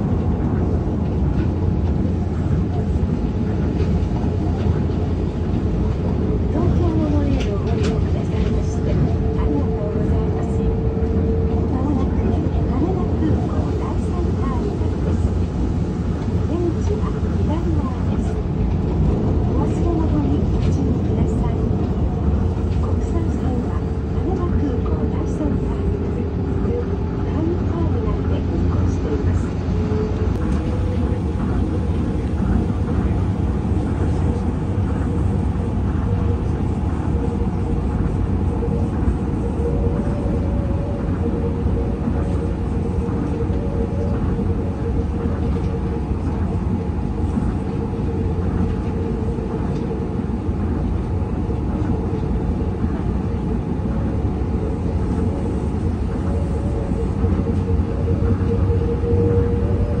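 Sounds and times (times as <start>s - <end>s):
monorail car rumble: 0.0s - 60.0s.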